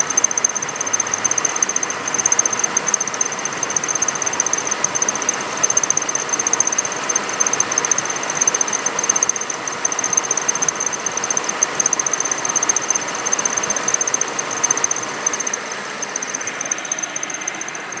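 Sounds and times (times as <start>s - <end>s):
belt tensioner whistling: 0.0s - 18.0s
engine running: 0.0s - 18.0s.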